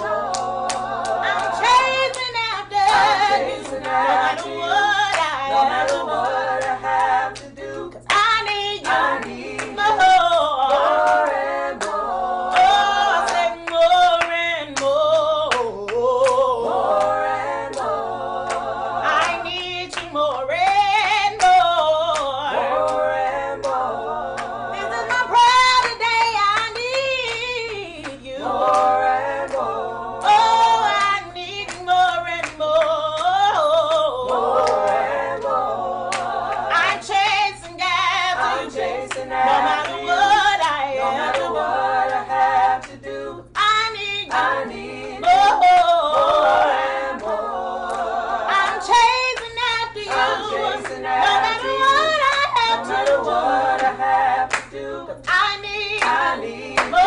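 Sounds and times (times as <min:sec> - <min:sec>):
woman singing with vibrato: 0:00.0 - 0:35.5, 0:36.1 - 0:47.6, 0:48.5 - 0:57.0
group singing a cappella: 0:00.0 - 0:57.0.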